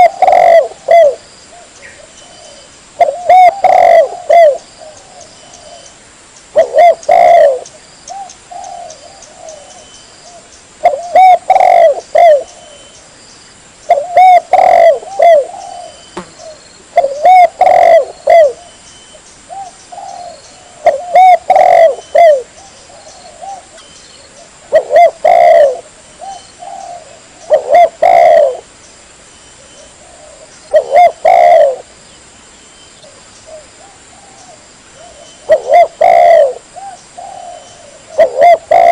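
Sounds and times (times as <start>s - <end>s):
dove cooing: 0.0s - 5.9s, 6.5s - 13.0s, 13.9s - 18.8s, 19.5s - 28.7s, 29.6s - 31.9s, 33.0s - 38.9s.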